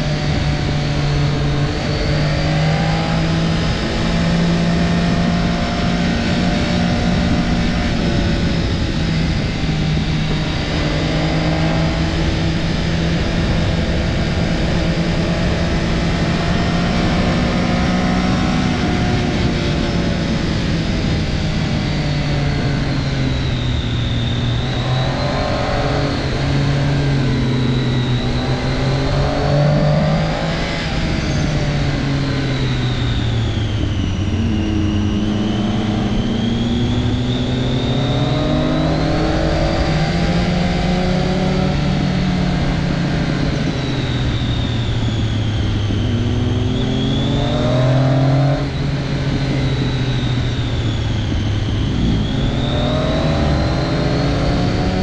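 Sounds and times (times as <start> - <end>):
high wavering whine: 0.0 - 55.0
motorcycle engine running: 0.0 - 55.0.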